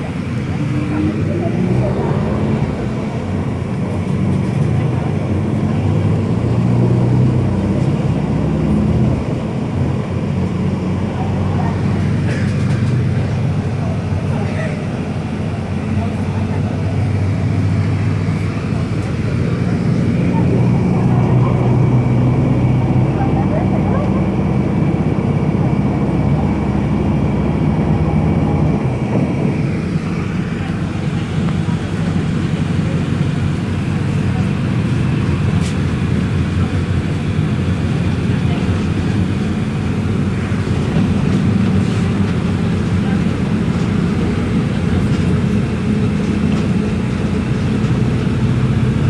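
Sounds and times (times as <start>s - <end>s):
bus diesel engine running: 0.0s - 49.0s.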